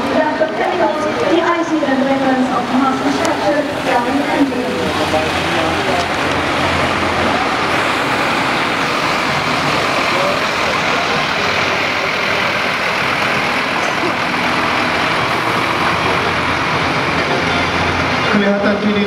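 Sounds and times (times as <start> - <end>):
trucks driving past: 0.0 - 19.0.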